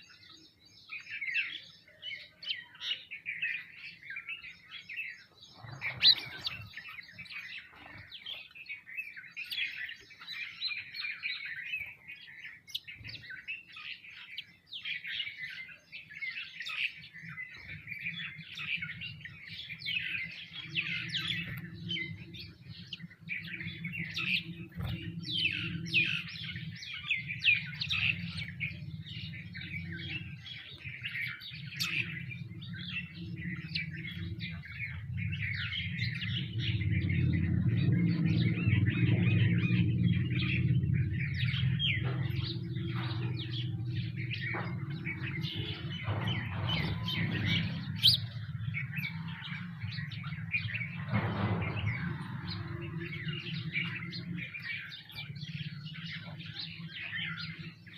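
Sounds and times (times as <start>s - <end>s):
flock of small birds chirping: 0.0s - 57.9s
steady low hum: 3.4s - 57.9s.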